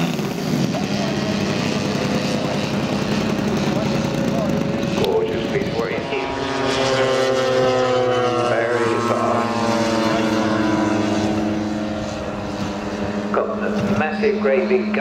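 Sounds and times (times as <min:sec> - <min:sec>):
propeller aircraft passing by: 0:00.0 - 0:15.0.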